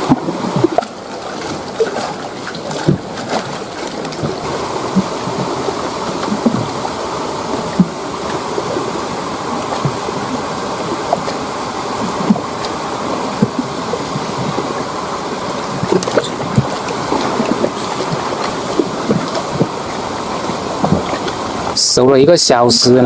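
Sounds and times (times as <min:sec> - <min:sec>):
flowing river water: 0:00.0 - 0:23.0.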